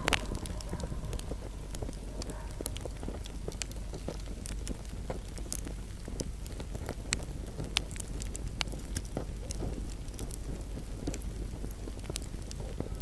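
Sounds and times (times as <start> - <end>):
low rumble of burning: 0.0 - 13.0
wood fire crackling: 0.0 - 13.0.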